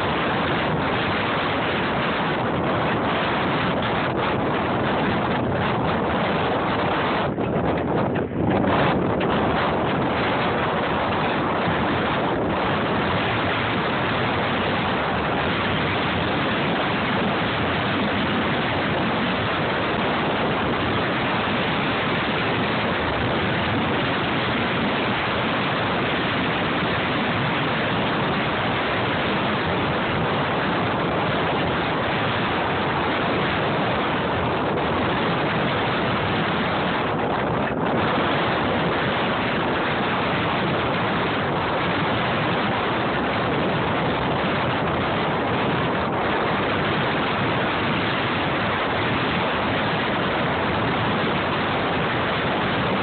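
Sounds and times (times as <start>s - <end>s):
wind on microphone: 0.0s - 53.0s.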